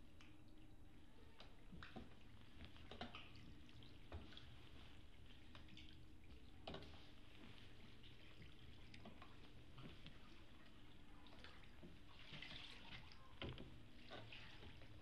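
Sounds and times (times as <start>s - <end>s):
water dripping and splashing: 0.0s - 15.0s.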